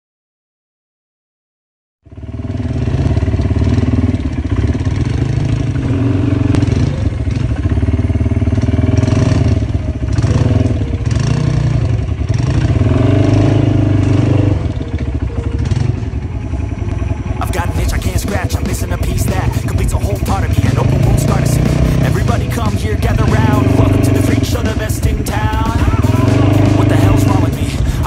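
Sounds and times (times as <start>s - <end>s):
atv engines revving: 2.1s - 28.0s.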